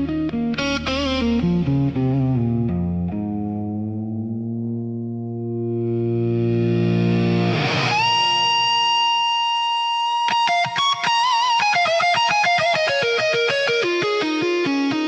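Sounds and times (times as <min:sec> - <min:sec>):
blues electric guitar solo: 0:00.0 - 0:15.0.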